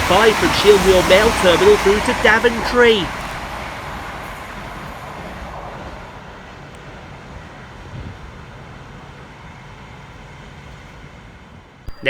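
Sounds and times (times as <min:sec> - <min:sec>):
electric train rushing past: 0:00.0 - 0:11.2.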